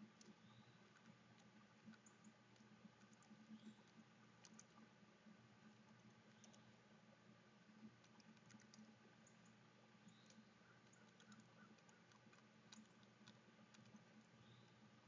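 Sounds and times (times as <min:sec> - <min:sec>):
faint high ticks: 0:00.0 - 0:04.8, 0:06.0 - 0:06.7, 0:07.8 - 0:14.8
low steady hum: 0:00.0 - 0:15.0.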